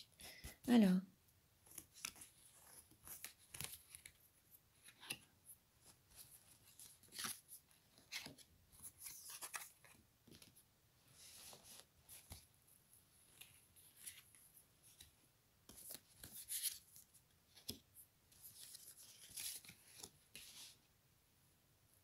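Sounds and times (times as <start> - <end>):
cards rustling and sliding: 1.6 - 12.5, 13.2 - 20.8.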